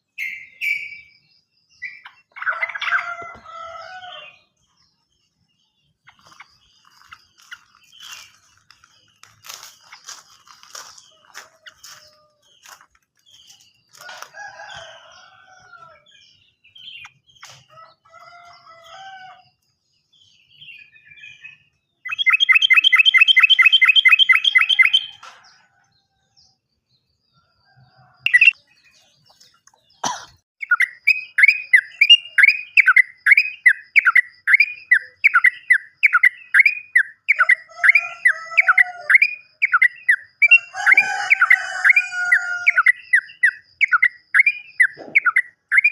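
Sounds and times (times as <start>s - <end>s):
bulbul singing: 0.0s - 19.4s, 20.0s - 25.3s, 28.3s - 45.9s.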